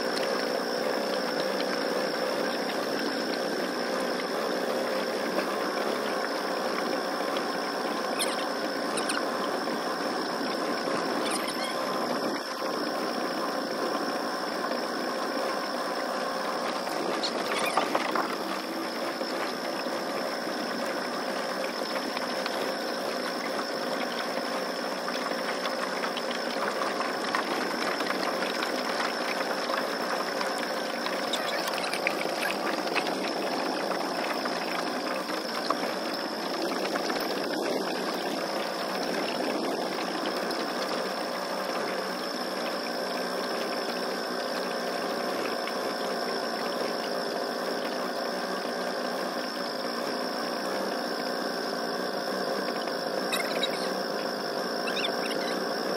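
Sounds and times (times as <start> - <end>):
boat motor buzzing: 0.0 - 45.3, 47.8 - 55.9.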